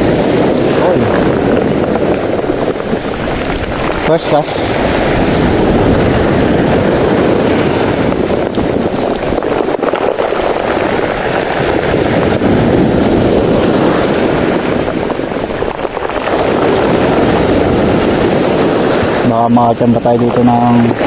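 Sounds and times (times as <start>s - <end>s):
sea waves: 0.0s - 21.0s
wind over microphone: 0.0s - 21.0s.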